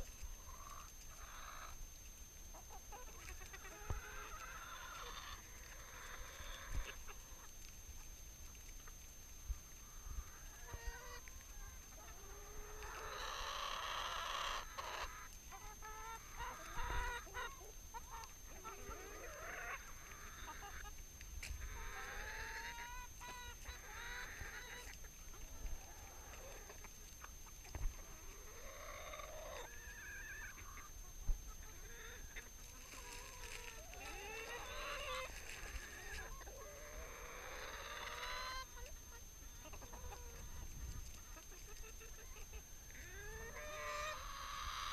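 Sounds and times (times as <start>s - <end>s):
chickens clucking and squawking: 0.0s - 44.9s.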